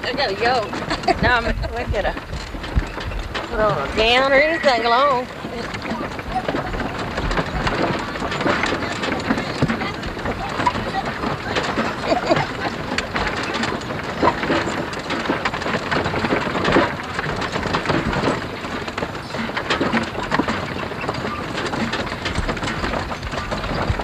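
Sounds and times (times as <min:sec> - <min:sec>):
horse-drawn wagon rattling: 0:00.0 - 0:24.0.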